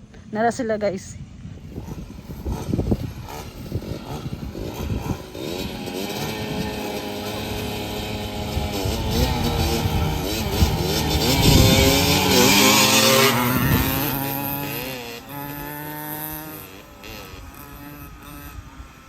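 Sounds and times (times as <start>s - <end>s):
dirt bike engine revving past: 1.2s - 19.0s.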